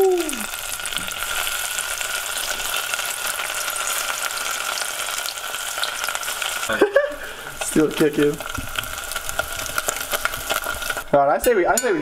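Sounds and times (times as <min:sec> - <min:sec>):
fish deep-frying in hot oil: 0:00.0 - 0:11.6.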